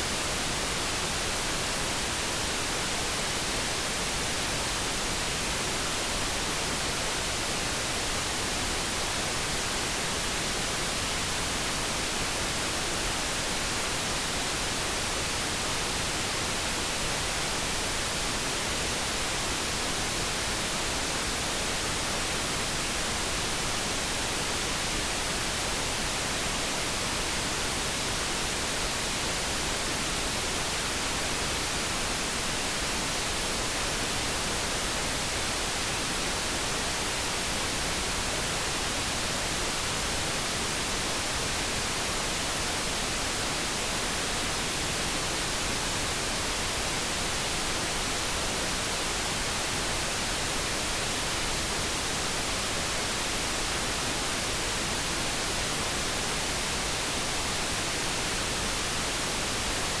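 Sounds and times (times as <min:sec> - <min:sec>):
brown noise hiss: 0:00.0 - 1:00.0.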